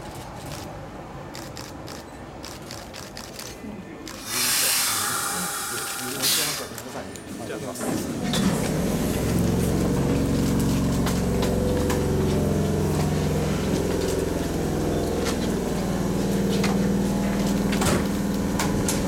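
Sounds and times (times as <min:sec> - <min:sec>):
train machinery humming: 0:00.0 - 0:19.0.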